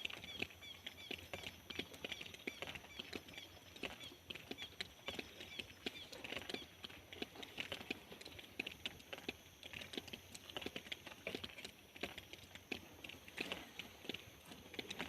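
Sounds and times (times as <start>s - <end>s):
raindrops pattering: 0.0s - 15.0s.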